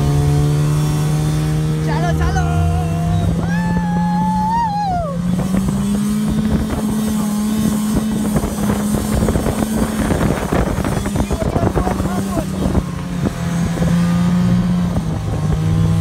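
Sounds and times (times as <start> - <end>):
snowmobile engine running: 0.0 - 16.0
wind buffeting microphone: 3.0 - 16.0.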